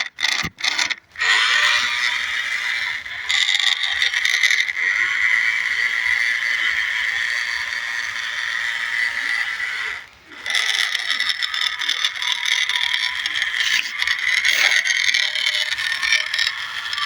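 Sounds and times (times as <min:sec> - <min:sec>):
toy tractor electric motor whining: 0:00.0 - 0:17.0.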